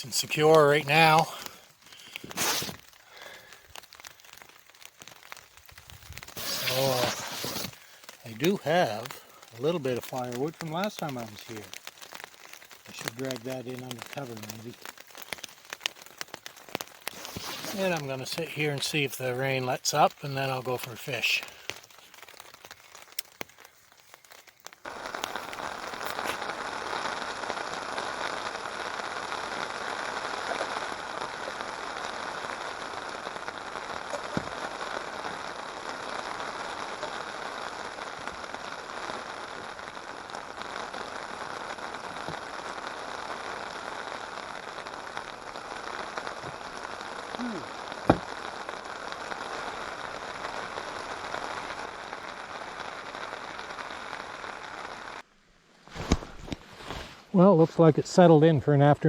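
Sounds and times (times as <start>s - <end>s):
heavy rain: 0.0s - 55.3s.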